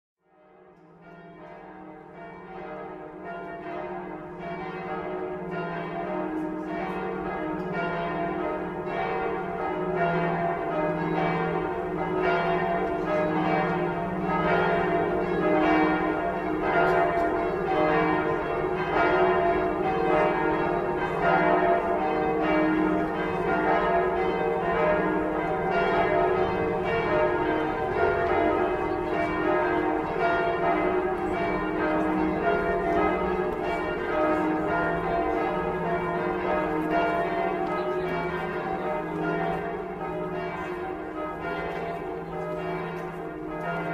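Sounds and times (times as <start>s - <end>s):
church bells pealing: 0.3s - 43.9s.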